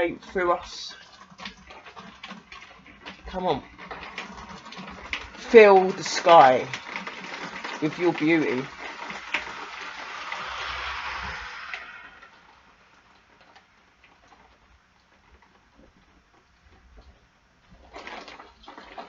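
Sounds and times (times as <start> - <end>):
faint raindrops ticking: 0.0 - 19.0.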